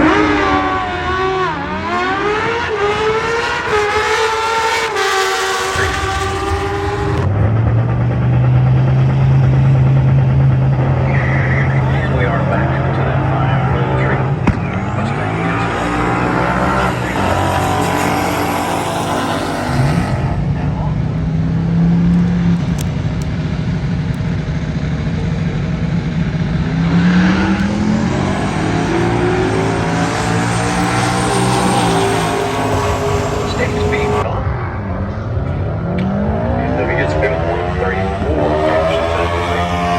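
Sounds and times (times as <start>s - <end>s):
vehicle engine at high revs: 0.0s - 34.3s, 35.6s - 39.9s.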